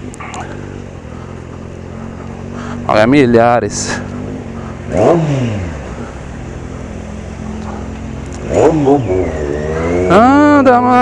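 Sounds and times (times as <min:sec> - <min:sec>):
engine throttle blips: 0:00.0 - 0:11.0
motorcycle engine running: 0:00.0 - 0:11.0.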